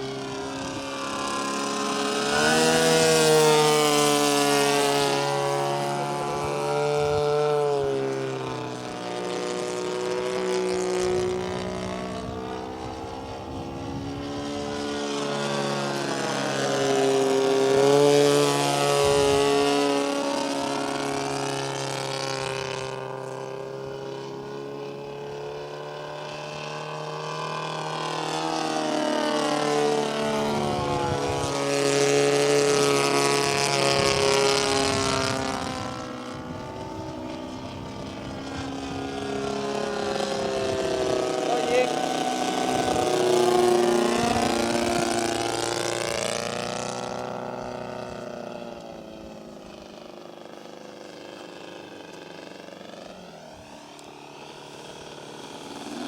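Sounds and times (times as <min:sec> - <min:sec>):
model airplane engine drone: 0:00.0 - 0:56.0.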